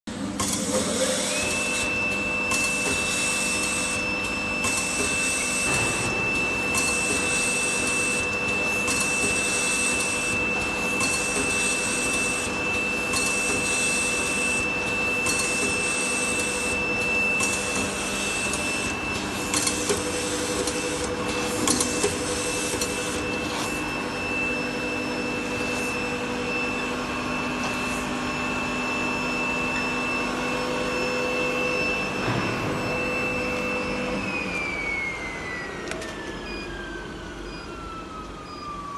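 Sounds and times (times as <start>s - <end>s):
machine high-pitched whine: 0.1s - 38.9s
machine low hum: 0.1s - 38.9s.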